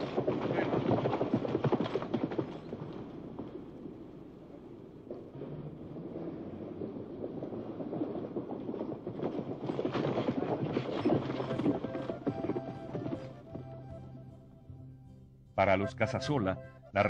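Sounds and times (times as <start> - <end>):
horse hooves on dirt road: 0.0 - 17.0.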